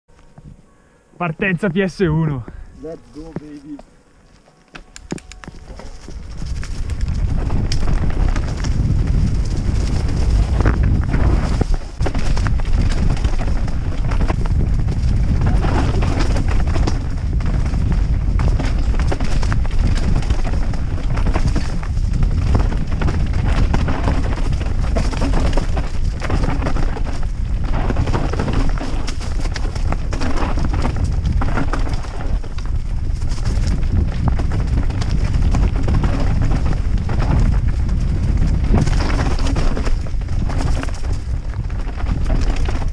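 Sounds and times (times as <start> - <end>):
wheels knocking on rocks: 4.7 - 42.9
mountain bike rattling: 5.0 - 42.9
wind buffeting microphone: 5.1 - 42.9.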